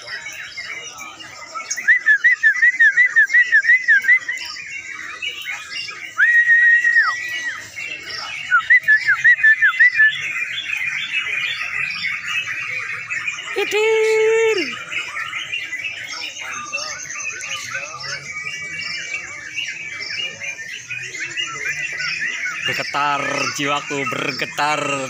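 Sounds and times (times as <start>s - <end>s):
bulbul whistling song: 0.0s - 25.0s
caged birds chirping: 0.0s - 25.0s.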